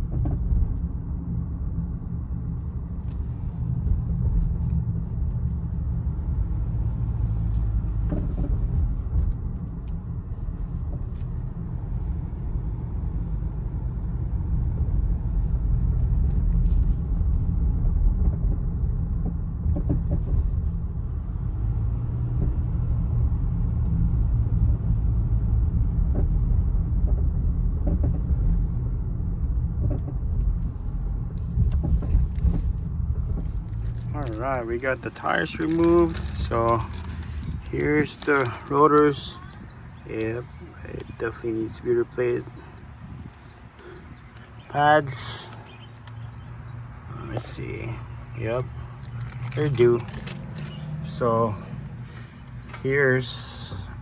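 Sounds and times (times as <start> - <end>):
low road rumble: 0.0 - 54.0.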